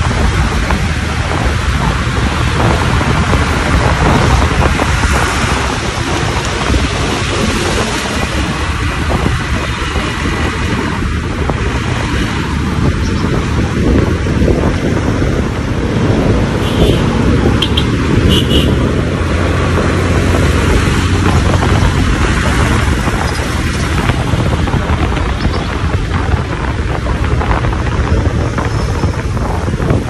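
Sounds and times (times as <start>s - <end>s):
motorcycle engine rumbling: 0.0s - 30.0s
wind buffeting microphone: 0.0s - 30.0s.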